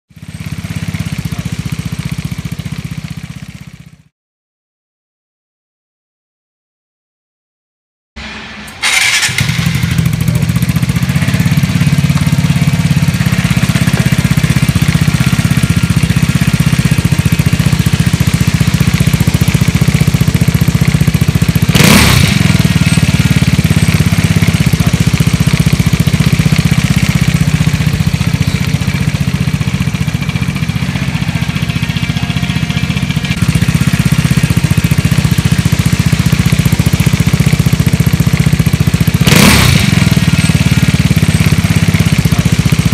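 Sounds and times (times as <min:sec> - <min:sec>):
scooter engine running: 0:00.2 - 0:04.1, 0:08.8 - 0:42.9.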